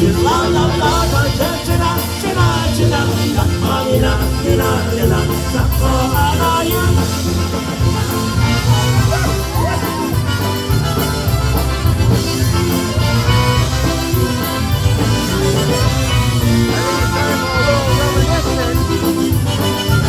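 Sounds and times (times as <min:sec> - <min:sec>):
polka band playing: 0:00.0 - 0:20.0.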